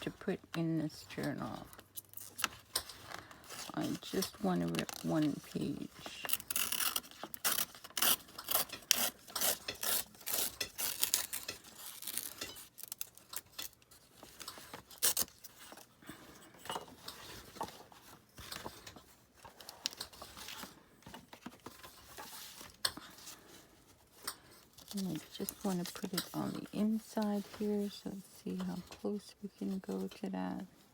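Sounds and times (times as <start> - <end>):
paper rustling: 2.1 - 15.9, 16.9 - 30.3.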